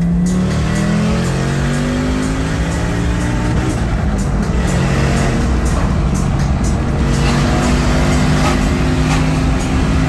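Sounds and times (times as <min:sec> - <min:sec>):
car engine at high revs: 0:00.0 - 0:10.0
music playing: 0:00.0 - 0:10.0.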